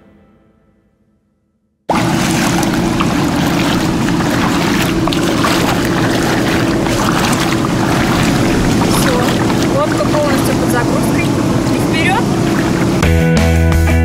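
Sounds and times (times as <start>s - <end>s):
wind: 1.9s - 13.2s
water noise: 1.9s - 13.3s
outboard motor running: 1.9s - 13.9s.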